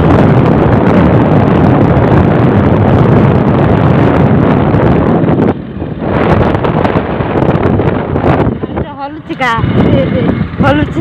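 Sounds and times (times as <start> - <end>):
motorcycle ride noise: 0.0 - 11.0
wind buffeting microphone: 0.0 - 11.0.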